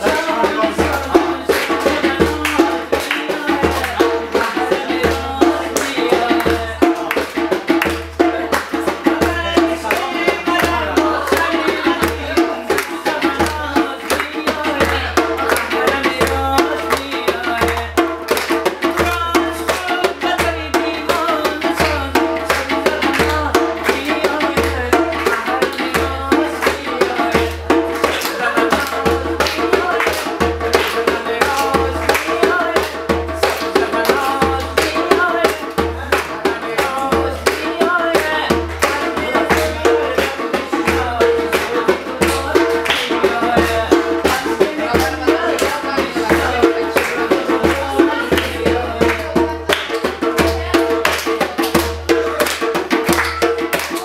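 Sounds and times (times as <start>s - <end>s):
hand drum rapid strokes: 0.0s - 54.0s
people clapping along: 0.0s - 54.0s.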